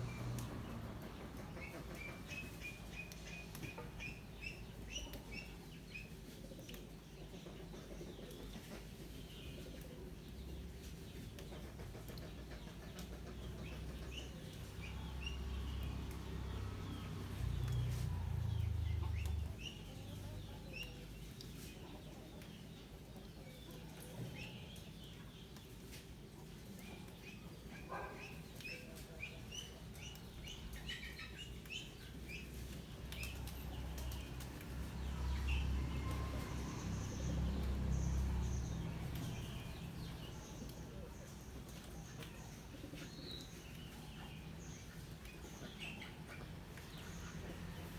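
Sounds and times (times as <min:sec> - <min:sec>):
chicks cheeping: 0:00.0 - 0:47.9.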